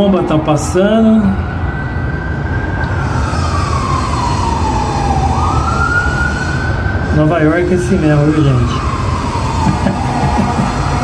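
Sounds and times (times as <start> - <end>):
fire engine siren wailing: 0.0 - 11.0
traffic rumble: 0.0 - 11.0.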